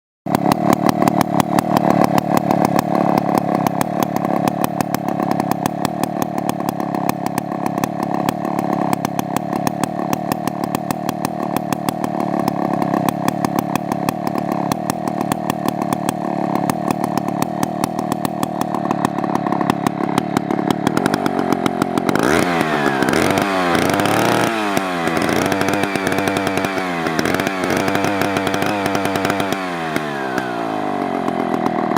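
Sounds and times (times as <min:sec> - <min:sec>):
engine idling and revving: 0:00.3 - 0:31.9.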